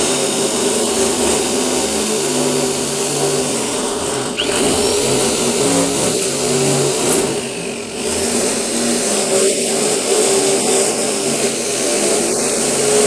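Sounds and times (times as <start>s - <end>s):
electric metal shear cutting: 0.1s - 13.0s.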